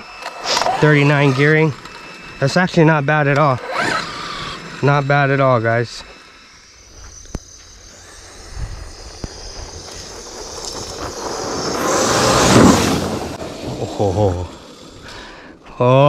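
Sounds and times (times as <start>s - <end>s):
electric rc truck passing by: 0.0s - 15.6s.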